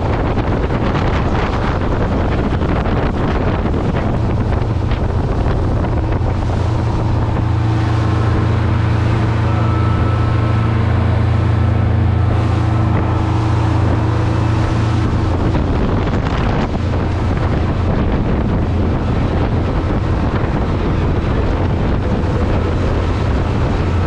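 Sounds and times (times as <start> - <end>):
boat engine humming: 0.0 - 24.0
wind buffeting microphone: 0.0 - 24.0.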